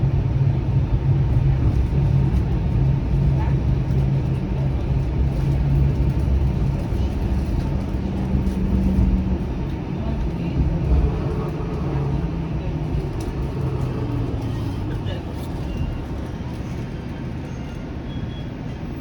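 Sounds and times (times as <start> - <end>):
streetcar interior rumble: 0.0 - 19.0.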